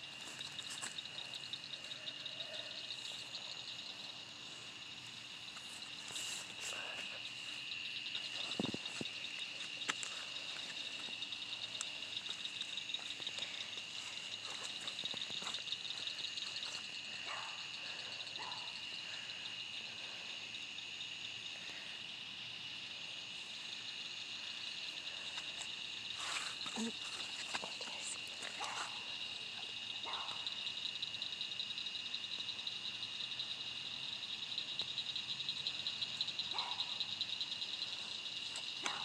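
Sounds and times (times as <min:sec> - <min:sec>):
night animals trilling: 0:00.0 - 0:31.4, 0:35.5 - 0:39.0.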